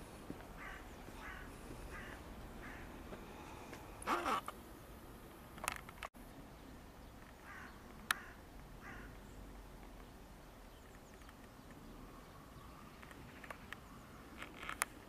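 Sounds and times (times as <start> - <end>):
bird calls: 0.0 - 4.6, 6.4 - 15.0.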